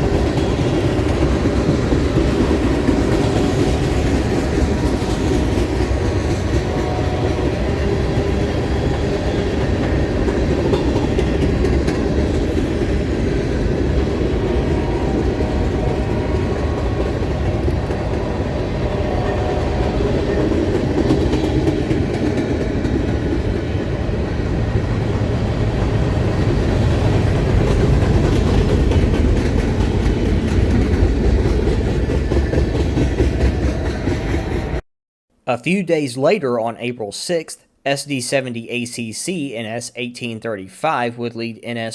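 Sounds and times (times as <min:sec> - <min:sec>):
train wheels rolling on rails: 0:00.0 - 0:34.8.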